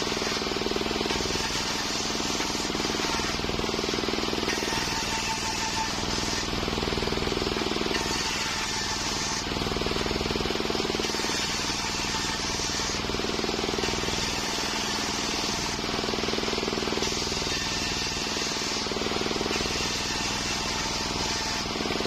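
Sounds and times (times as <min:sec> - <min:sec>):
saw blade cutting log: 0:00.0 - 0:22.0
sawmill motor drone: 0:00.0 - 0:22.0.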